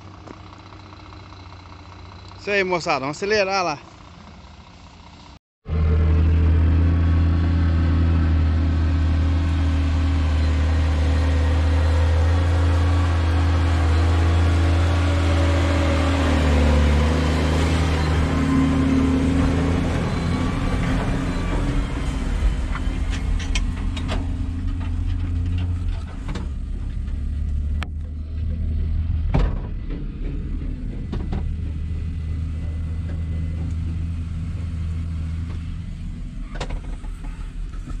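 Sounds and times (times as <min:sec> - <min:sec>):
passing tractor engine: 0:00.0 - 0:38.0
tractor engine from inside cab: 0:00.0 - 0:38.0.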